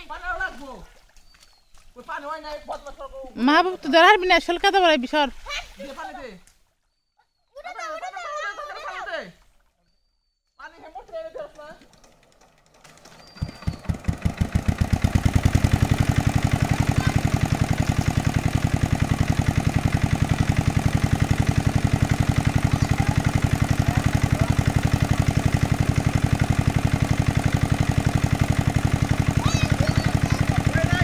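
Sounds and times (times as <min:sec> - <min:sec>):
engine-driven water pump chugging: 0:00.0 - 0:05.8, 0:07.9 - 0:31.0.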